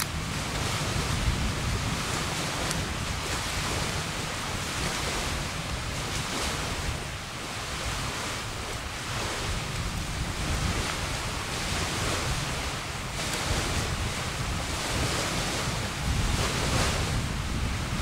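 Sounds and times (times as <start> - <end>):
wind blowing: 0.0 - 18.0
wind buffeting microphone: 0.0 - 18.0.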